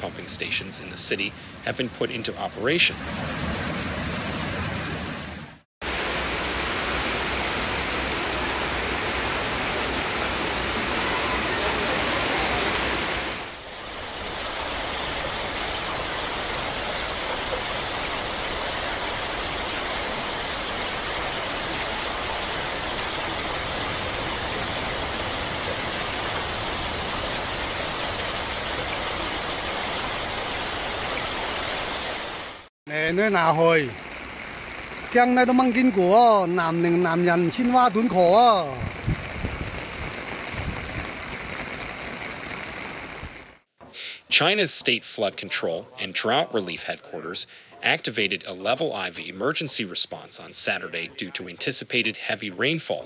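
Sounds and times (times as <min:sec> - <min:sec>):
heavy rain: 0:00.0 - 0:43.6
rushing floodwater: 0:00.0 - 0:43.6.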